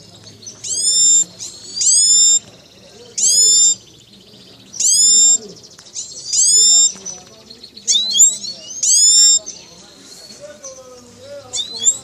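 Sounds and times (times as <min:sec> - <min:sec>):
bird calling loudly: 0:00.0 - 0:12.0.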